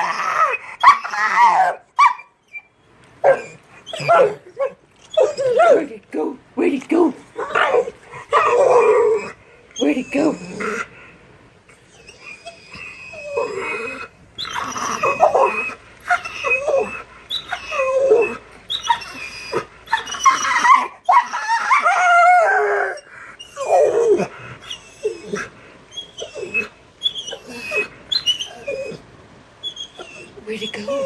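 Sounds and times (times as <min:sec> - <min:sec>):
dog whining and whimpering: 0:00.0 - 0:06.0, 0:07.4 - 0:10.9, 0:11.7 - 0:31.0.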